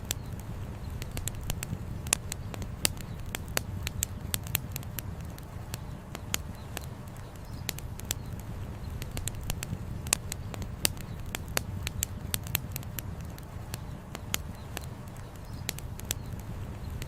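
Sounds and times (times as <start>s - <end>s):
firewood popping: 0.0s - 17.0s
low fire rumble: 0.0s - 17.0s.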